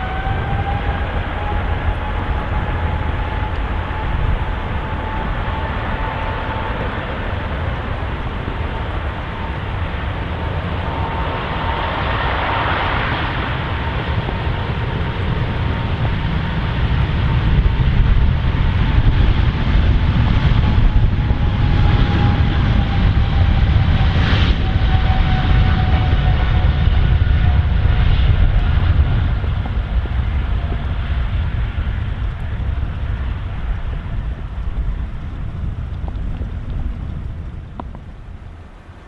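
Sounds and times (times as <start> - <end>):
jet engines rumbling with fan whine: 0.0 - 39.0.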